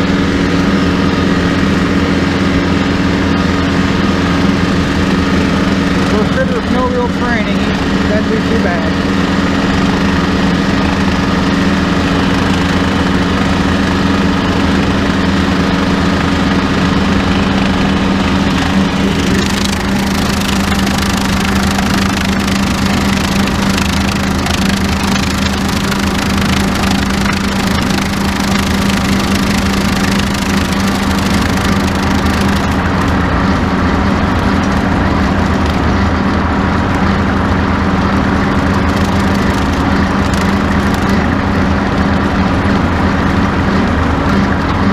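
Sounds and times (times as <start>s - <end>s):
mower cutting grass hiss: 0.0s - 36.3s, 37.0s - 44.9s
tractor engine running: 0.0s - 44.9s.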